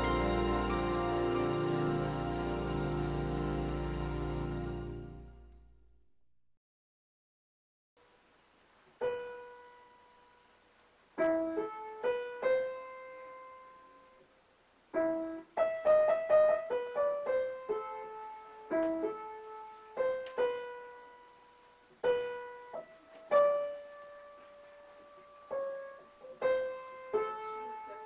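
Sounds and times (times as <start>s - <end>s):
slow upright piano melody: 0.0s - 5.6s, 9.0s - 10.3s, 11.2s - 14.2s, 14.9s - 28.0s.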